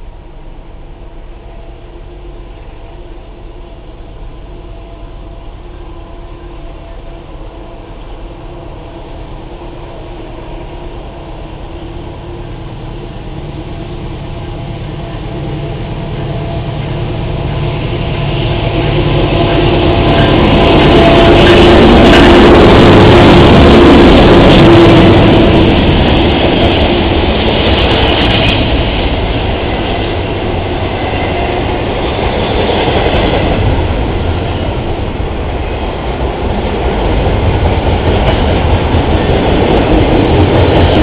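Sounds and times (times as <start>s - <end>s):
diesel locomotive engine rumbling: 0.0s - 41.0s.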